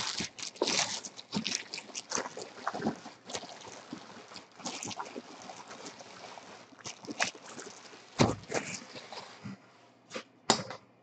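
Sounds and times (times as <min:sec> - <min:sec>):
plastic shrink-wrap crinkling: 0:00.0 - 0:09.4.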